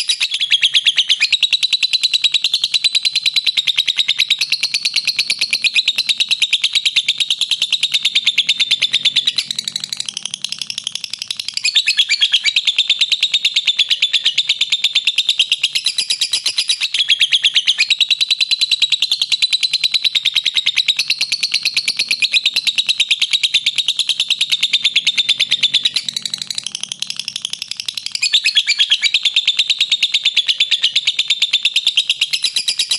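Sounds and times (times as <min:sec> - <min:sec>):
lovebird chattering trill: 0:00.0 - 0:32.9.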